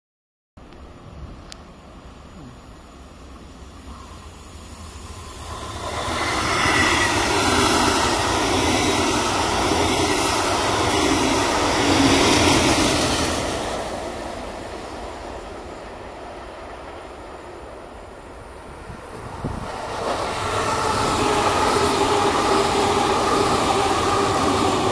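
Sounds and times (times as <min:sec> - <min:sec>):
train wheels rumbling on rails: 0:03.1 - 0:24.9.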